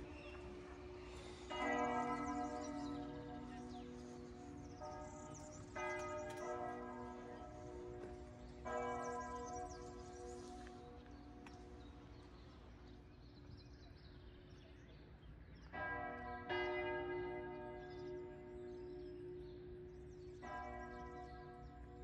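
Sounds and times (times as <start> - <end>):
church bells ringing: 0.0 - 12.1, 15.6 - 22.0.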